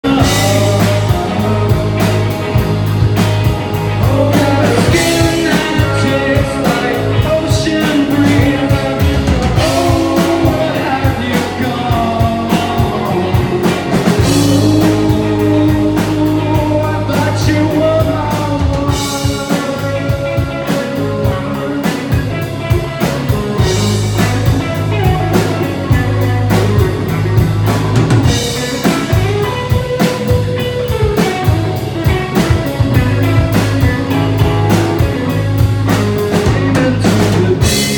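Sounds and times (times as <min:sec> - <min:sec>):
rock band playing: 0:00.0 - 0:37.9.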